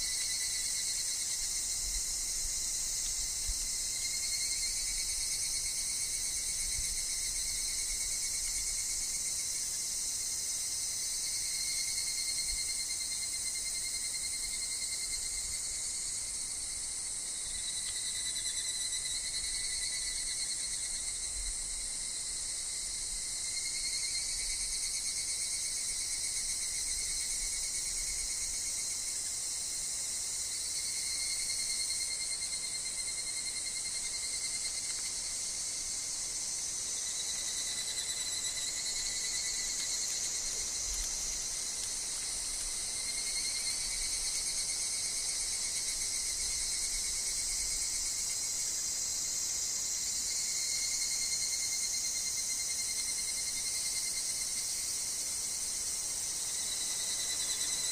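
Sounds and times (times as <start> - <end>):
chorus of cicadas: 0.0 - 57.9.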